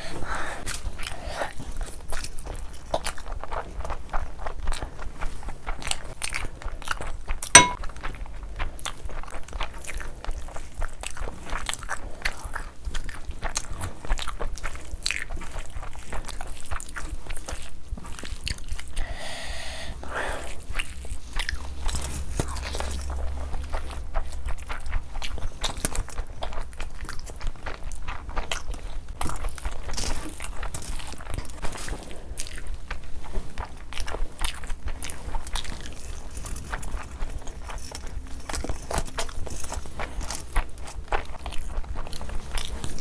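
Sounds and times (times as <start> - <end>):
person chewing: 0.2 - 43.0.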